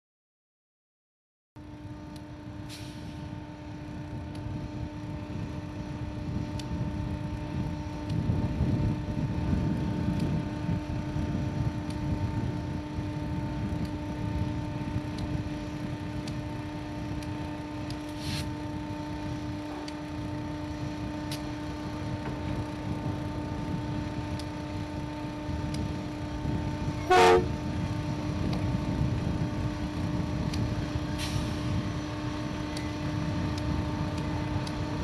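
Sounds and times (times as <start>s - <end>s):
locomotive engine rumble: 1.6s - 35.0s
steady hum: 1.6s - 35.0s.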